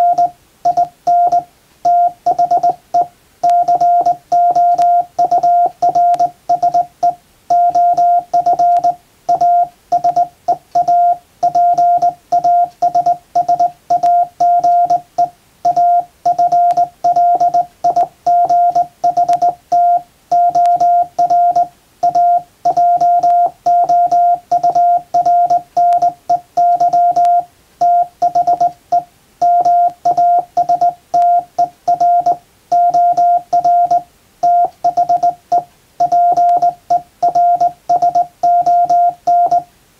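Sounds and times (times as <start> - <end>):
morse code beeps: 0.0 - 39.7.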